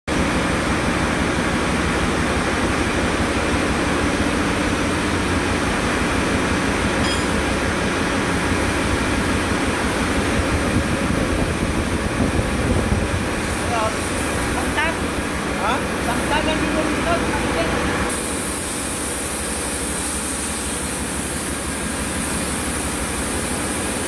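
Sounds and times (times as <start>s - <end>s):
engine room machinery drone: 0.1s - 24.0s.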